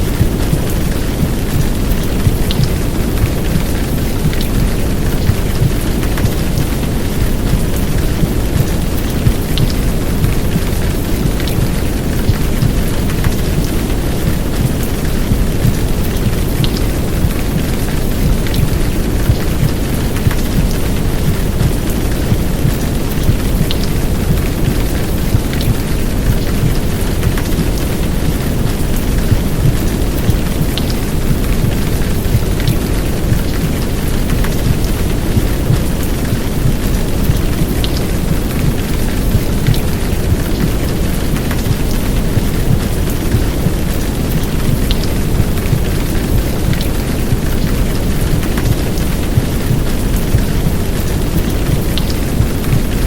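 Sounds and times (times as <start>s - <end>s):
heavy rain: 0.0s - 53.0s
muffled heartbeat: 0.0s - 53.0s
rain drops ticking: 0.0s - 53.0s
white noise: 0.0s - 53.0s.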